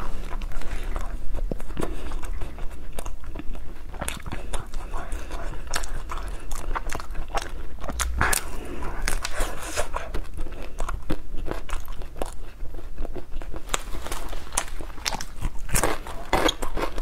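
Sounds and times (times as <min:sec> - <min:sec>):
crunching and chewing wafer: 0:00.0 - 0:17.0
wet mouth sounds: 0:00.0 - 0:17.0.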